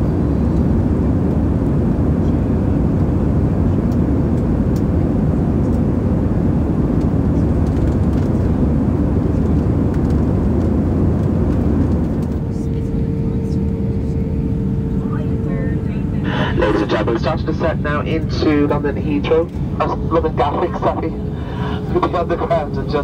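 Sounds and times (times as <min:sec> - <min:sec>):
airplane cabin engine rush: 0:00.0 - 0:23.0.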